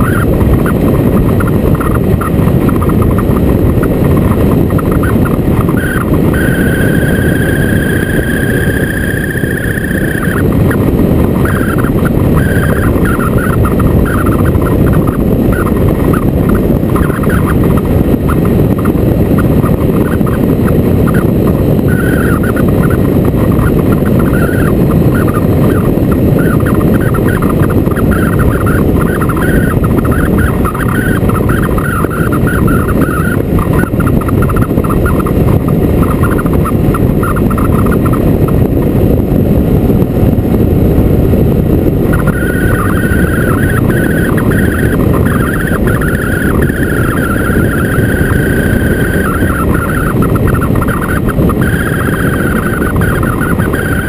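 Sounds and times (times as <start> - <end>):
fluttering high warble: 0.0 - 38.5, 42.1 - 54.0
high whine: 0.0 - 54.0
wind buffeting microphone: 0.0 - 54.0.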